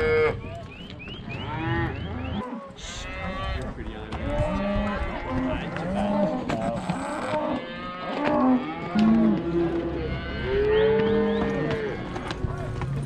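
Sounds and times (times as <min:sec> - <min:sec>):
cattle mooing and bawling: 0:00.0 - 0:00.5, 0:01.4 - 0:12.2.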